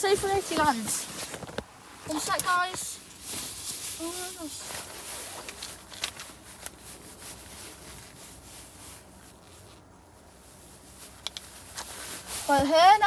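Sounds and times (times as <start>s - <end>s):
handling rubbing: 0.0s - 9.8s, 10.9s - 13.0s.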